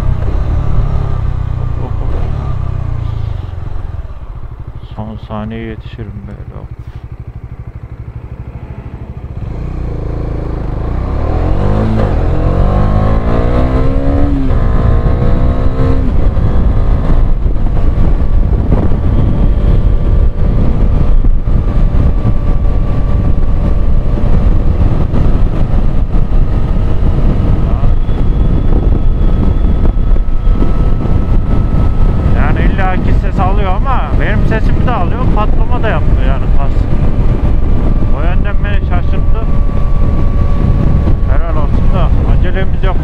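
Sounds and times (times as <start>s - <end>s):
motorcycle engine accelerating: 0.0s - 43.0s
wind noise: 0.0s - 43.0s.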